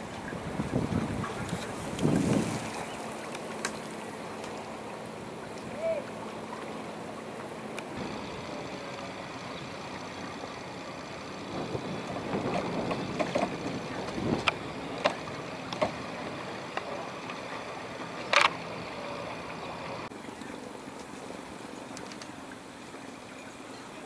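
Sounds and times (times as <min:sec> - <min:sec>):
boat knocks and clicks: 0:00.0 - 0:20.1
light wind: 0:00.0 - 0:24.0
water washing along hull: 0:00.0 - 0:24.0.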